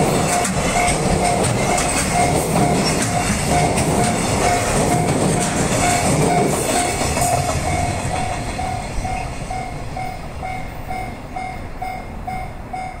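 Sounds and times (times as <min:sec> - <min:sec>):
freight train wagons rumbling: 0:00.0 - 0:13.0
level crossing alarm ringing: 0:00.2 - 0:13.0.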